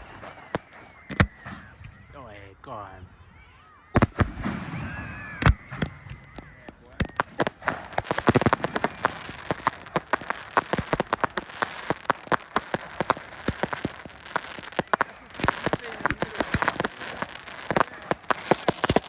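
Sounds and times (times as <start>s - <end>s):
fireworks crackling: 0.0s - 1.5s, 4.0s - 19.0s
firework bang: 0.0s - 1.7s, 4.0s - 19.0s.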